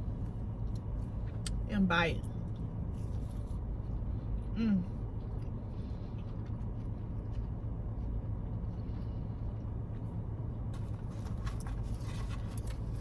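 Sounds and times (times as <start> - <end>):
low hum inside a car: 0.0 - 13.0.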